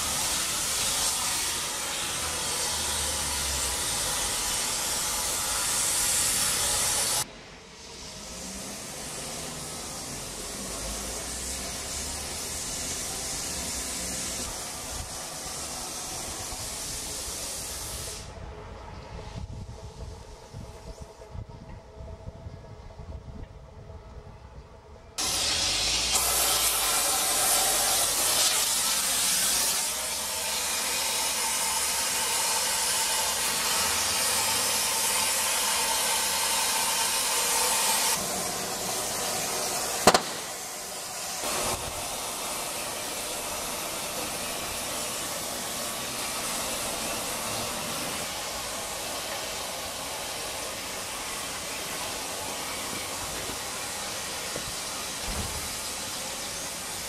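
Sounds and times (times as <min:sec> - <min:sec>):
loud steady hiss: 0:00.0 - 0:21.3, 0:25.2 - 0:57.0.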